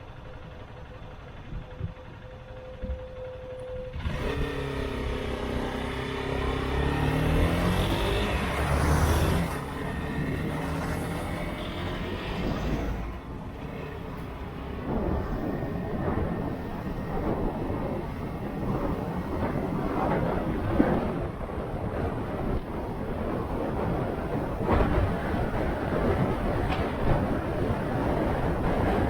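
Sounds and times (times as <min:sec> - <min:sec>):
wind and road noise: 0:00.0 - 0:29.0.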